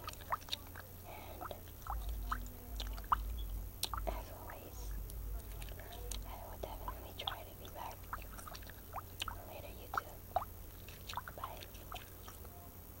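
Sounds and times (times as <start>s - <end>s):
small wet clicks and plinks: 0.0s - 4.1s, 4.8s - 12.6s
low steady hum: 0.0s - 13.0s.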